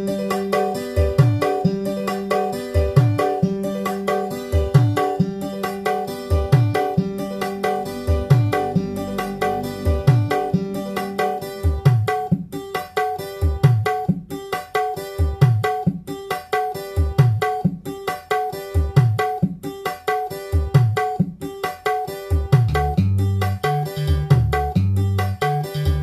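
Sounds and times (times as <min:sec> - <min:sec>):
plucked strings: 0:00.0 - 0:26.0.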